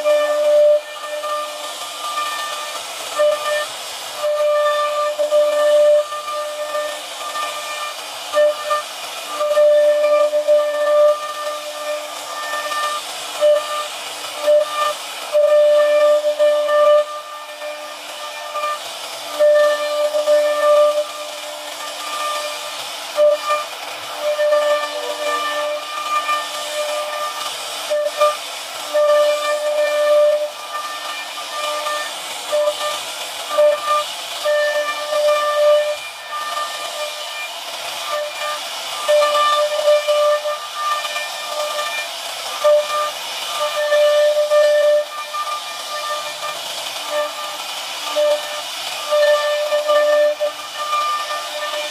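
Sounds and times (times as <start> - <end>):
router spindle whine: 0.0 - 51.9
wood being cut hiss: 0.0 - 51.9.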